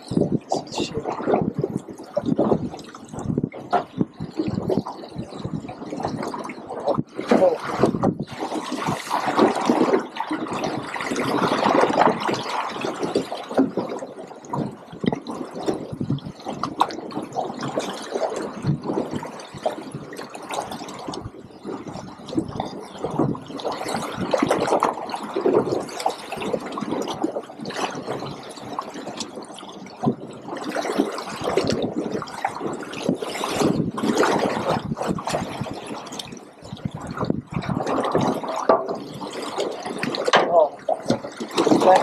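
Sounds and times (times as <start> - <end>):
water slapping against boat: 0.0 - 42.0.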